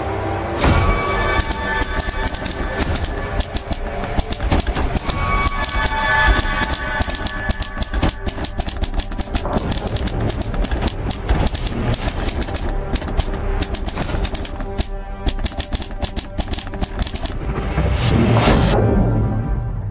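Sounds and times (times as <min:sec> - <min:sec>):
background music with steady bass: 0:00.0 - 0:19.9
typewriter key clicks: 0:01.3 - 0:17.4.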